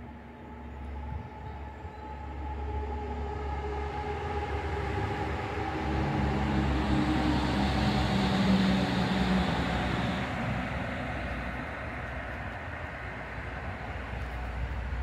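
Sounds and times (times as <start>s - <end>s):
faint steady rush: 0.0s - 15.0s
heavy vehicle passing hum: 2.2s - 15.0s.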